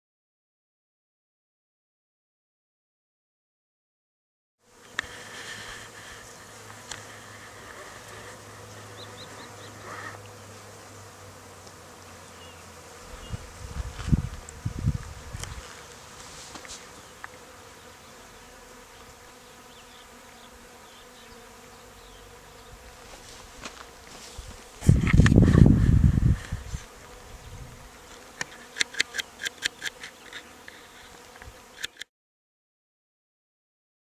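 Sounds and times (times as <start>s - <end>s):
insects buzzing: 4.6s - 32.0s.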